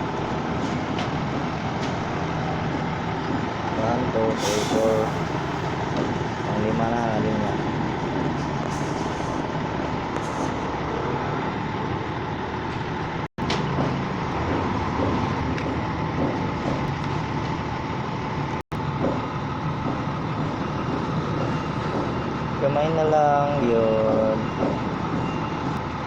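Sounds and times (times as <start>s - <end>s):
road vehicle engine noise: 0.0s - 26.0s.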